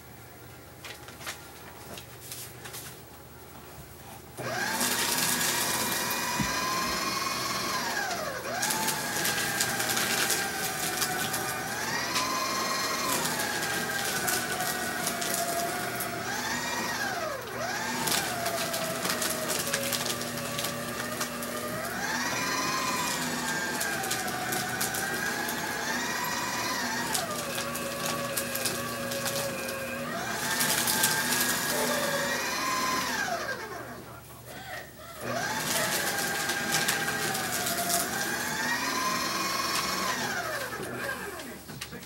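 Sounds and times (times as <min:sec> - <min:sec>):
paper shredder motor whine: 0:04.3 - 0:42.0.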